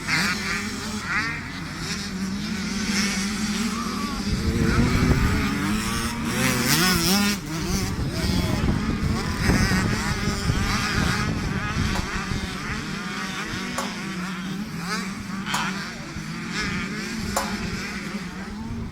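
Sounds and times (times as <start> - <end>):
motocross bikes revving: 0.0 - 18.9.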